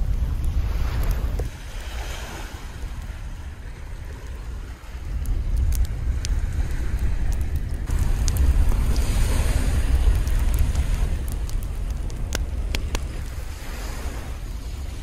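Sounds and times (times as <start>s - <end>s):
campfire crackles: 0.0s - 15.0s
sea surf: 0.0s - 15.0s
wind rumbling on microphone: 0.0s - 15.0s.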